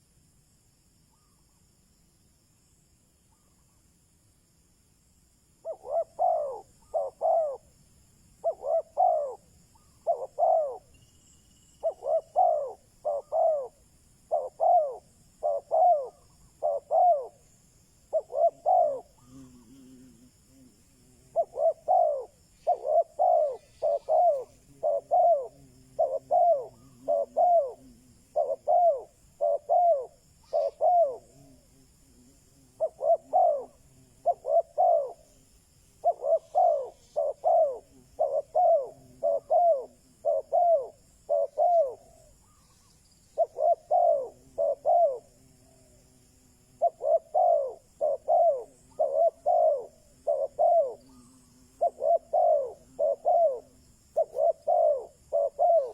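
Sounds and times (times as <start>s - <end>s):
dove cooing: 5.6s - 7.8s, 8.4s - 11.0s, 11.8s - 55.9s.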